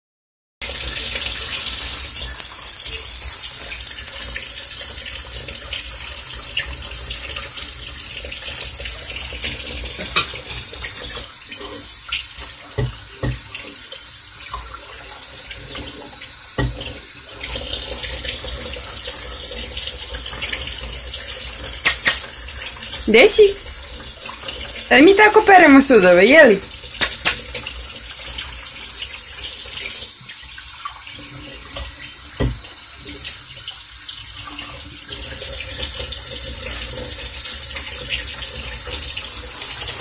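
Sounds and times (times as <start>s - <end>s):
tap water running into sink: 0.6s - 40.0s.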